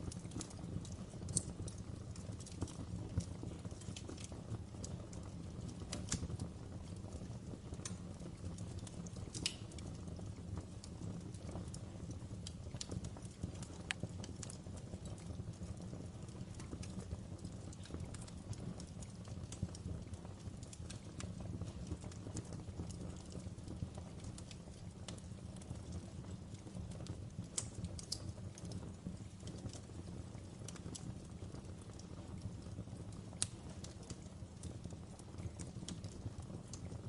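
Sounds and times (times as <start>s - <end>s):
log fire crackling and popping: 0.0s - 37.0s.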